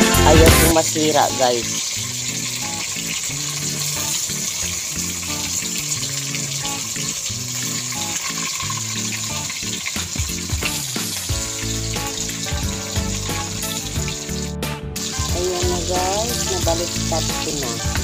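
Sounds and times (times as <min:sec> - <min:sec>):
background music: 0:00.0 - 0:18.0
fish sizzling in oil: 0:00.0 - 0:18.0.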